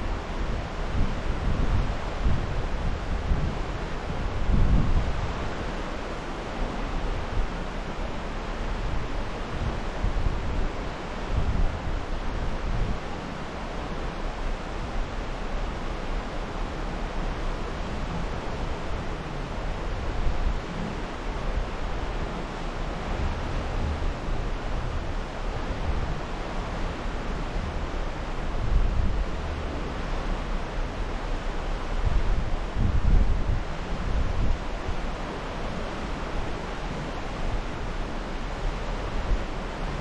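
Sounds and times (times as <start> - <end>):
wind gusts buffeting microphone: 0.0 - 7.6, 8.6 - 13.4, 17.8 - 40.0.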